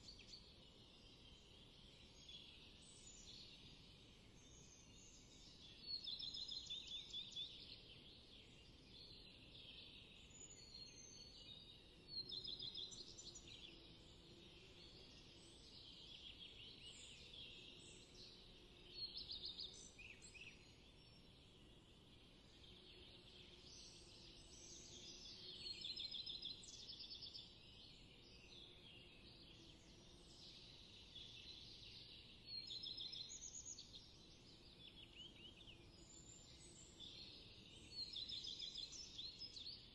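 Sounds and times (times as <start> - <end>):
songbirds chirping and calling: 0.0 - 39.9.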